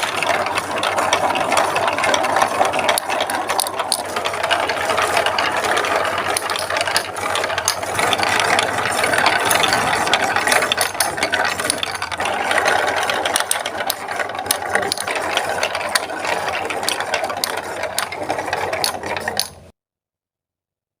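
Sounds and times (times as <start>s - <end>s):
marbles rattling along plastic track: 0.0s - 19.7s.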